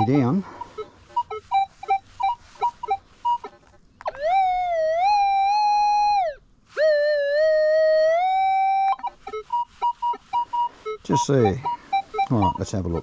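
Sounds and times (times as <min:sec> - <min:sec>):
long electronic detector tones: 0:00.0 - 0:13.0
metal detector beeps: 0:00.0 - 0:13.0.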